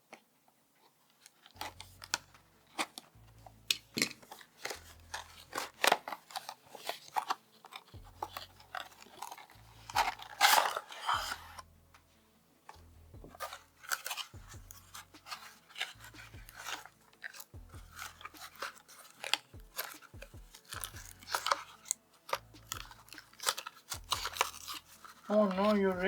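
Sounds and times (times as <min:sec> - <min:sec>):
packaging crinkling and tearing: 0:01.1 - 0:11.7, 0:12.6 - 0:26.0.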